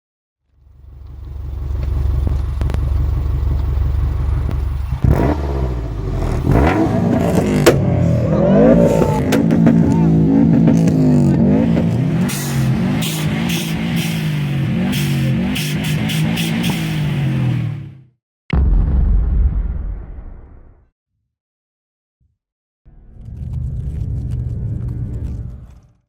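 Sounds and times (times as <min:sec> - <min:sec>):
deep bass drone: 0:00.5 - 0:20.7, 0:22.9 - 0:25.8.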